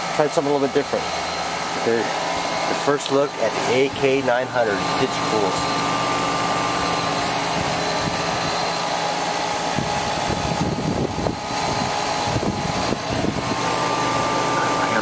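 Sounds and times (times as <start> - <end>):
air conditioner condenser whirring: 0.0 - 15.0.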